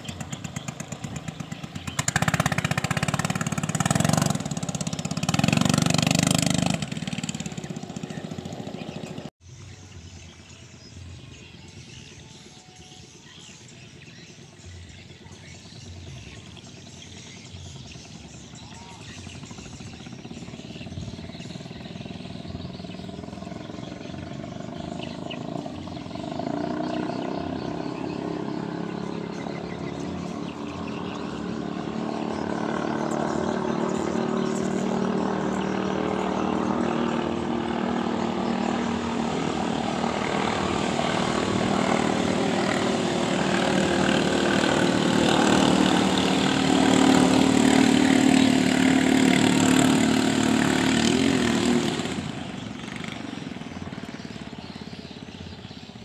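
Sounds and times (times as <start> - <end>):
boat engine racing: 0.0 - 9.4, 16.7 - 56.0.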